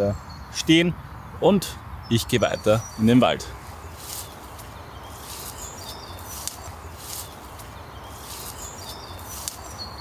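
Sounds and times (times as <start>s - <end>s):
birds chirping and whistling: 0.0s - 10.0s.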